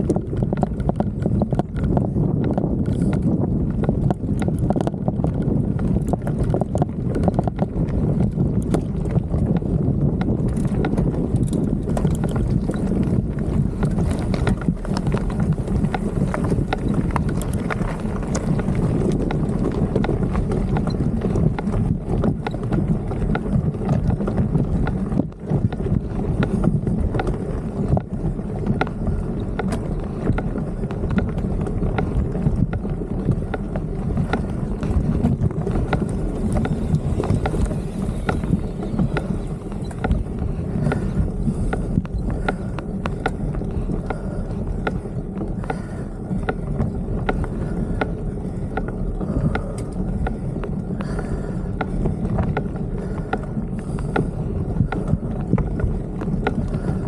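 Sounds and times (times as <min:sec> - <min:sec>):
camera rattling in bike mount: 0:00.0 - 0:50.8
bike rolling over rough dirt: 0:00.0 - 0:57.0
wind buffeting microphone: 0:00.0 - 0:57.0.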